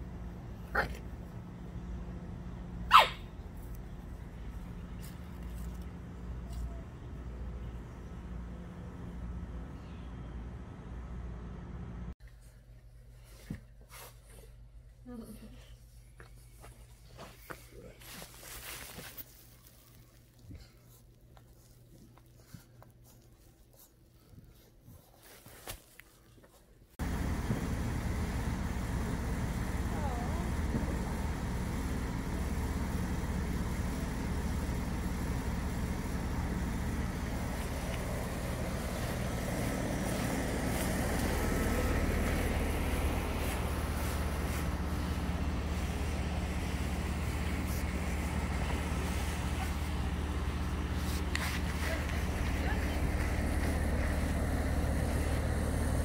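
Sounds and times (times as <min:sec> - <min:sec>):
vehicle noise with low hum: 0:00.0 - 0:25.4, 0:26.0 - 0:56.0.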